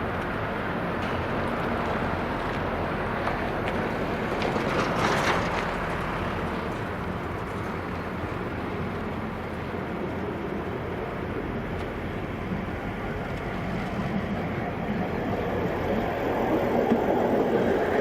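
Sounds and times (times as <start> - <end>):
rail grinder grinding rumble: 0.0 - 18.0.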